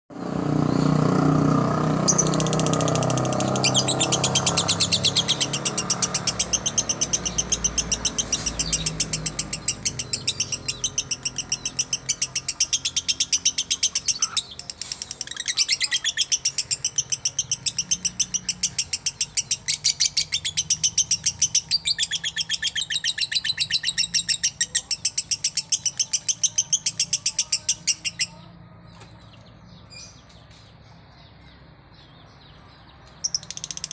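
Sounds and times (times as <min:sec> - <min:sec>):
bird chattering trill: 0:01.9 - 0:28.5, 0:33.2 - 0:33.9.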